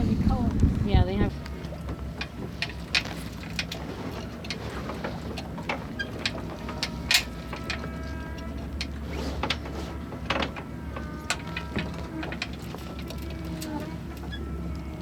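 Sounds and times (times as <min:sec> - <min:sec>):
winch clicking and ratcheting: 0:01.4 - 0:15.0.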